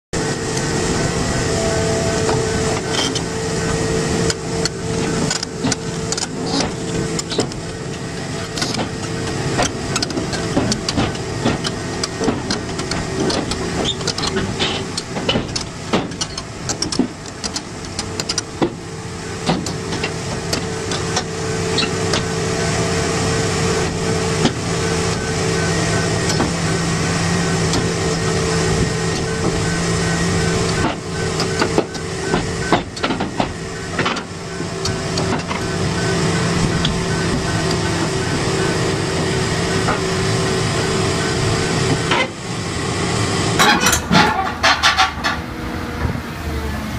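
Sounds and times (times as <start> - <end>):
diesel engine running under load: 0.1 - 46.9
hydraulic whine: 0.2 - 46.9
steel tracks clanking on metal ramps: 0.2 - 46.9.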